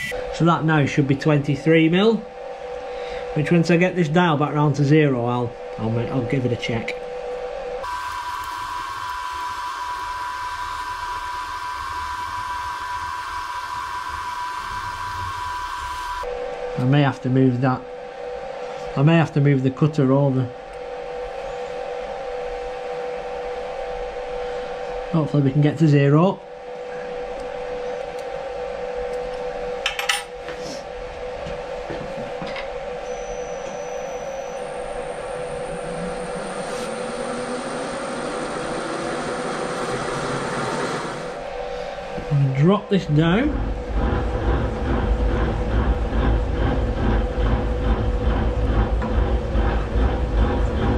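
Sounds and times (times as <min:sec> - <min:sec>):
steady machine whine: 0:00.0 - 0:50.9.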